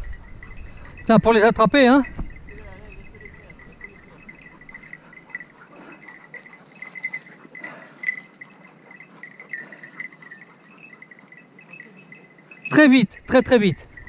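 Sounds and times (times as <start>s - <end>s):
small bell jingling: 0.0s - 14.0s.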